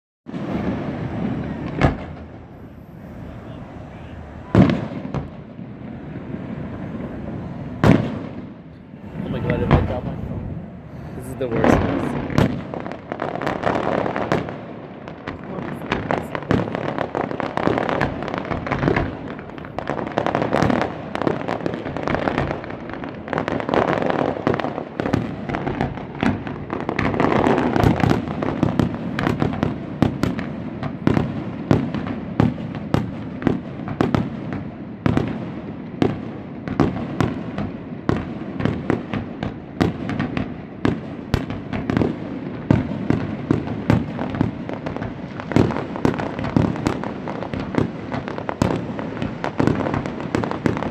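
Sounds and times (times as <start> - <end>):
fireworks booming: 0.3 - 50.9
fireworks crackling: 0.3 - 50.9.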